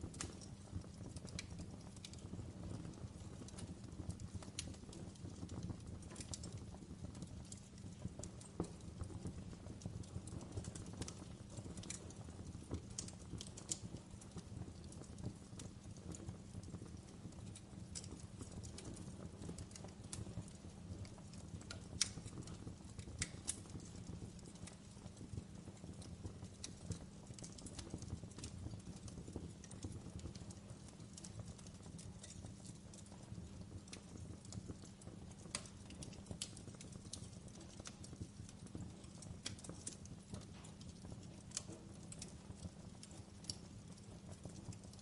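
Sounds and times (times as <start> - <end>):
fire crackling and popping: 0.0 - 45.0.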